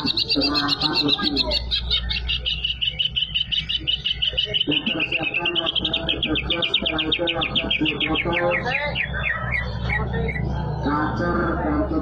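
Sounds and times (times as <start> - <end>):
bird singing rapid trill: 0.0 - 12.0.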